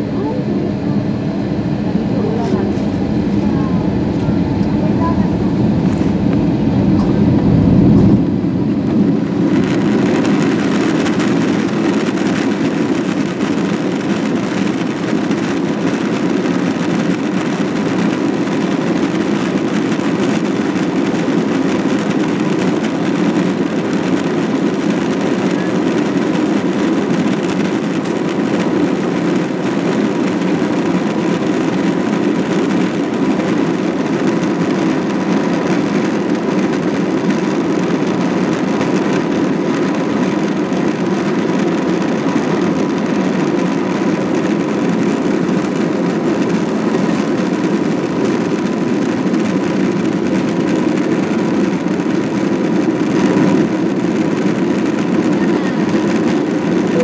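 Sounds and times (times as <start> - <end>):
aircraft engine and rolling rumble: 0.0 - 57.0.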